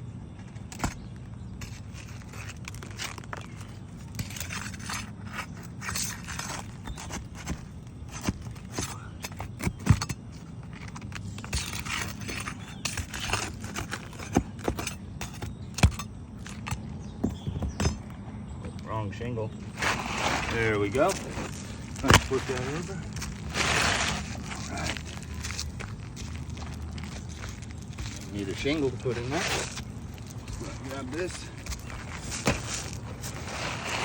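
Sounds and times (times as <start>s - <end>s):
tool scraping roof shingles: 0.6s - 18.1s, 19.6s - 34.0s.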